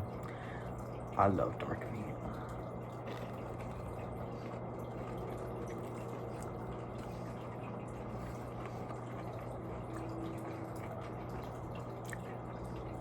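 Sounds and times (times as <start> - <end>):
chewing crispy food: 1.6 - 13.0.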